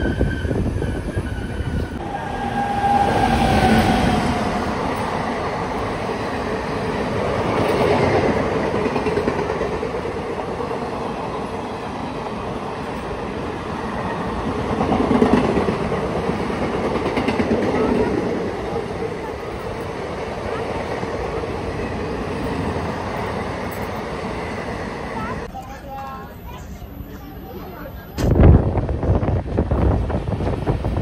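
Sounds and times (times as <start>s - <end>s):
train wheels running on rails: 0.0s - 31.0s.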